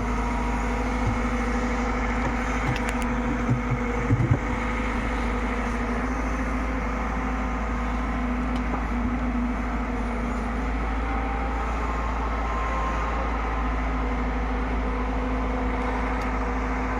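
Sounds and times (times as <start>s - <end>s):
diesel engine droning: 0.0s - 16.9s.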